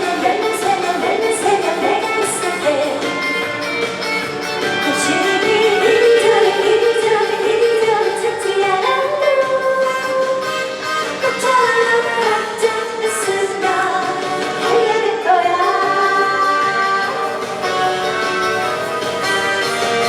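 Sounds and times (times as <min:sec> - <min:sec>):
woman singing: 0:00.0 - 0:03.3, 0:04.8 - 0:17.7
band backing track: 0:00.0 - 0:20.0.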